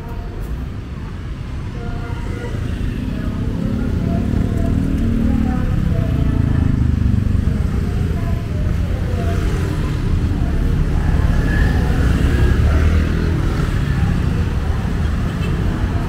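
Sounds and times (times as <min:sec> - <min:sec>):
people's voices: 0:00.0 - 0:16.0
traffic rumble: 0:00.0 - 0:16.0.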